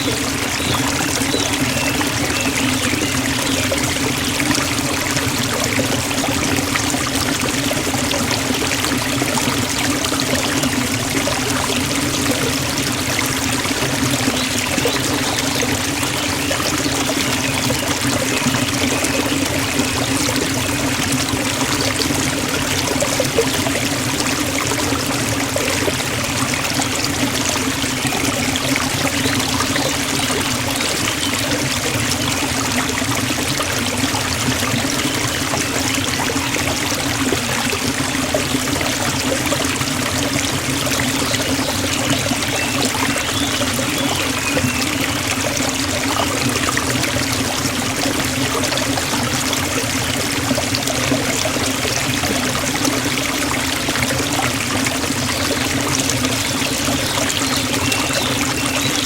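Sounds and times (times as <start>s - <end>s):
waterfall rushing: 0.0s - 58.6s.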